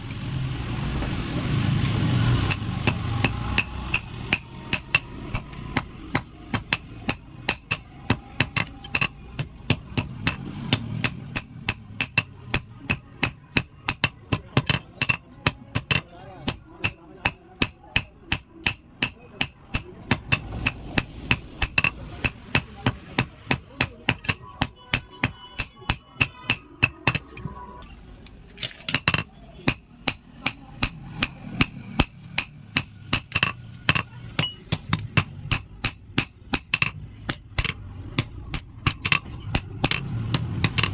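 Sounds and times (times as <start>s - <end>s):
hammer striking steel on anvil: 2.5s - 27.4s, 28.7s - 40.9s.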